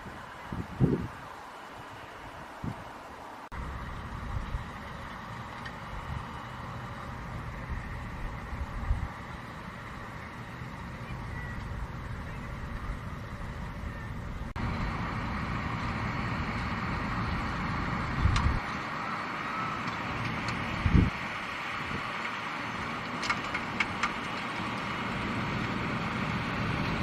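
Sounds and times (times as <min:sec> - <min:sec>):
tractor engine and harvester machinery: 0:00.0 - 0:27.0.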